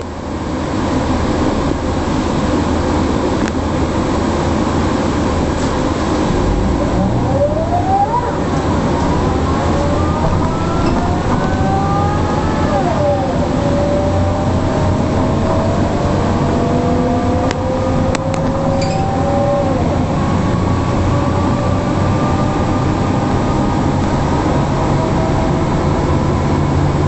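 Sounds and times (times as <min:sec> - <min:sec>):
bus diesel engine rumbling: 0:00.0 - 0:27.0
drivetrain whine: 0:00.0 - 0:27.0.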